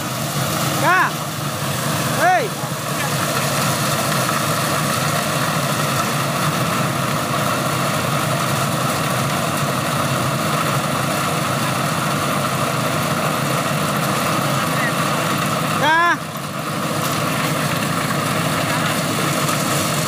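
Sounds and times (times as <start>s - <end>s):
corn sheller running: 0.0s - 20.0s.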